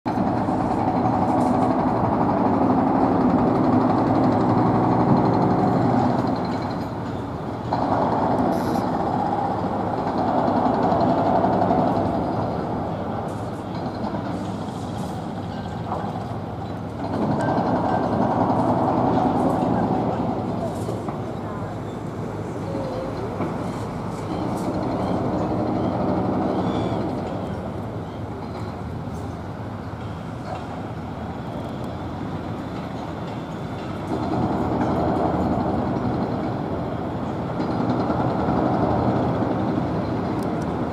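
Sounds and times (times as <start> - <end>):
diesel machinery engine rumble: 0.1 - 40.9.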